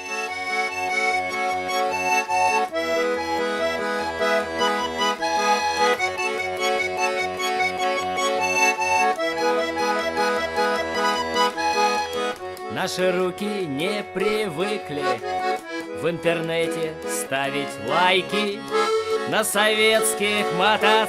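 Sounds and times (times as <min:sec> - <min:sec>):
accordion music: 0:00.0 - 0:21.0.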